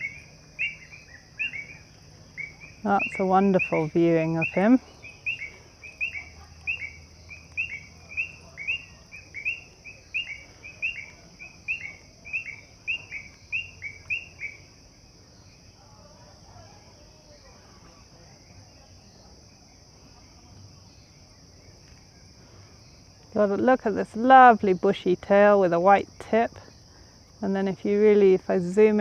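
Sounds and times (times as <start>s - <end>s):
frogs chorus: 0.0s - 29.0s.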